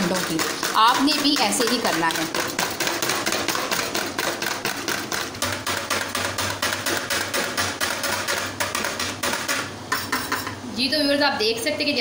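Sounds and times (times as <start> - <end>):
wire whisk beating eggs in bowl: 0.0 - 10.5.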